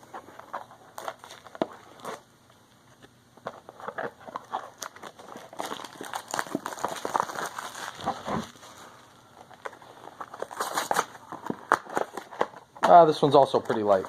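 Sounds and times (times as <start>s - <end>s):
cardboard and plastic wrapping rustling: 0.0s - 2.2s, 2.9s - 14.0s.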